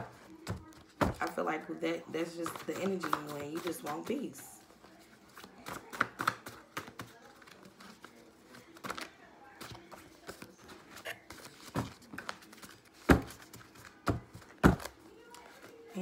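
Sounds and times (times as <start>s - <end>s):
cards being shuffled: 2.4s - 4.3s, 5.0s - 16.0s.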